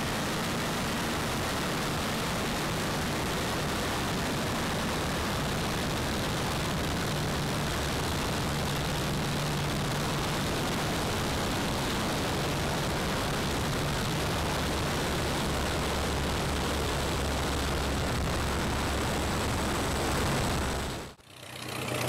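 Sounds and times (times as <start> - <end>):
propeller plane engine humming: 0.0 - 22.0.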